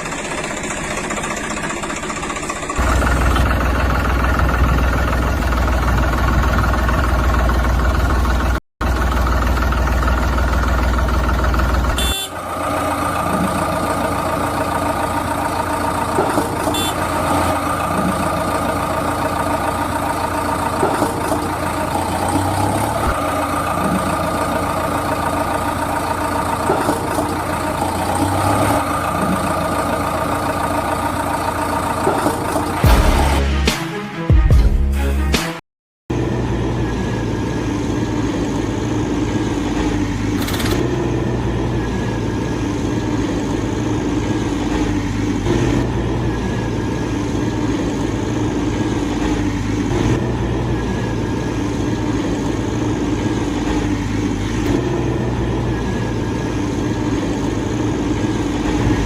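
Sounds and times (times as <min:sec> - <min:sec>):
vehicle engine running: 0:00.0 - 0:33.8, 0:36.1 - 0:59.0.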